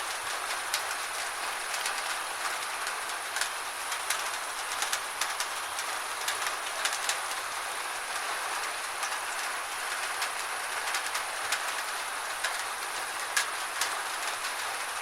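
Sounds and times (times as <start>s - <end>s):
gentle rain hissing: 0.0s - 15.0s
raindrops ticking on a surface: 0.0s - 15.0s.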